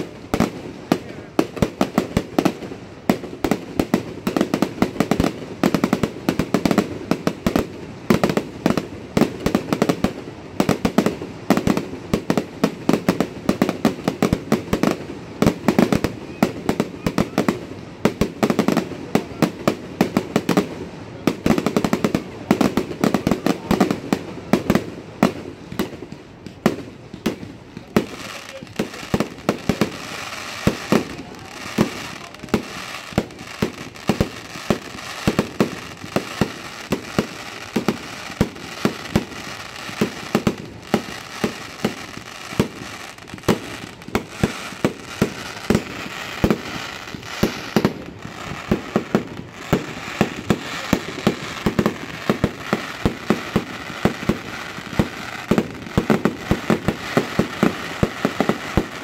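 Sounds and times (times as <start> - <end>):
fireworks bangs and pops: 0.0 - 59.0.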